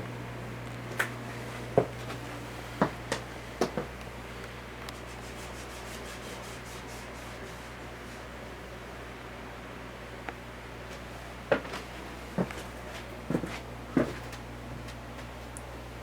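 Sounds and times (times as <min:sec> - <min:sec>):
ceiling fan humming: 0:00.0 - 0:16.0.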